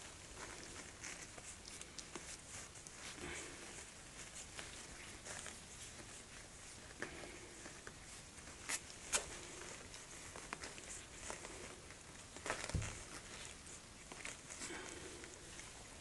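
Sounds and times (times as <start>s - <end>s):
puppies rustling and scratching: 0.0s - 16.0s.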